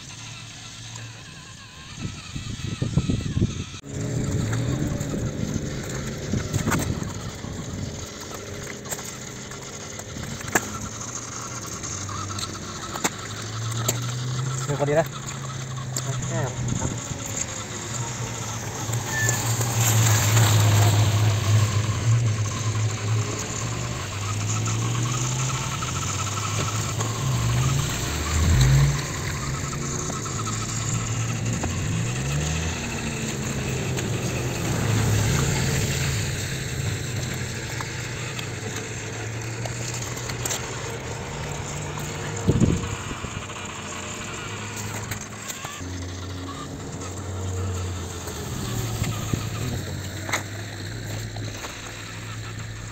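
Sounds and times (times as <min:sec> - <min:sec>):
toy motor droning: 0:00.0 - 0:52.9.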